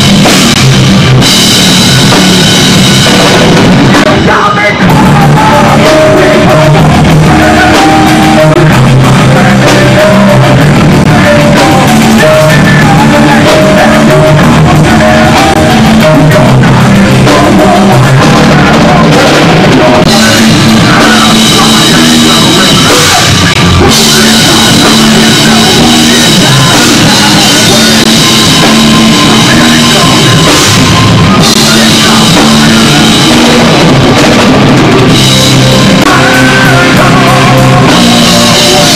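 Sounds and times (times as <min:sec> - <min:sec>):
drum kit: 0:00.0 - 0:38.9
electric guitars: 0:00.0 - 0:38.9
person singing: 0:03.0 - 0:38.9.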